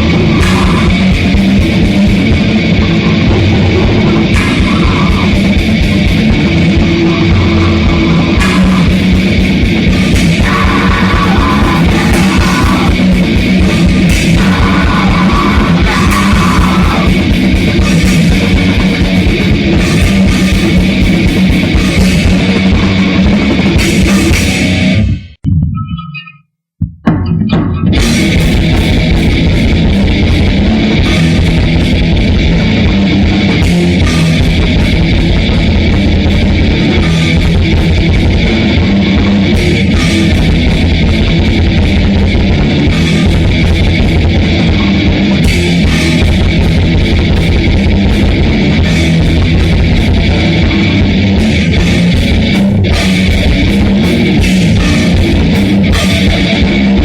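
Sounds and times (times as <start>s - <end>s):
grindcore band playing: 0.0s - 25.4s, 27.1s - 57.0s
distorted electric guitar: 0.0s - 57.0s.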